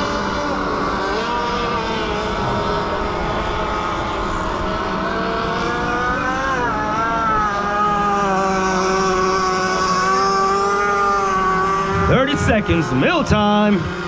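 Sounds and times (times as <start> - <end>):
small boat engine at high revs: 0.0 - 14.0.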